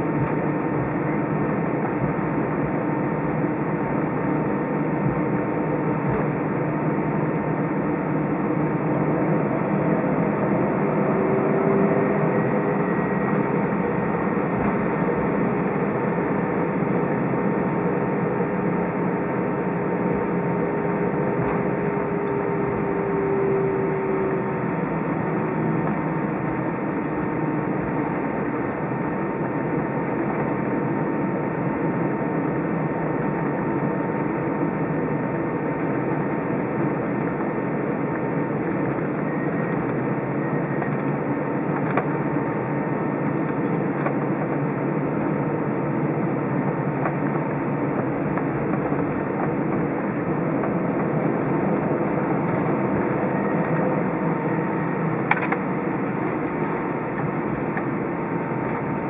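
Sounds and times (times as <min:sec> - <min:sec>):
aircraft cabin rush: 0:00.0 - 0:59.0.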